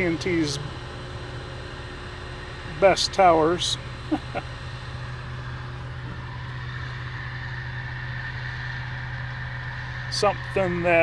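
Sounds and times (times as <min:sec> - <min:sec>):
faint constant whine: 0:00.0 - 0:11.0
steady engine hum: 0:00.0 - 0:11.0.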